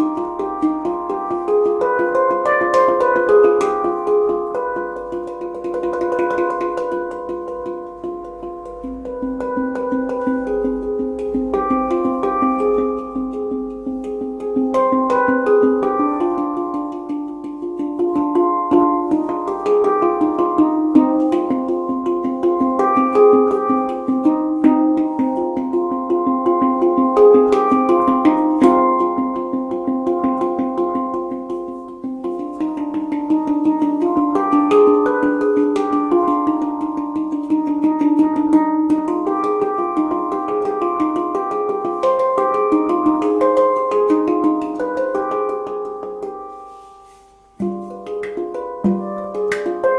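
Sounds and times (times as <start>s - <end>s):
handpan melody: 0.0s - 49.9s.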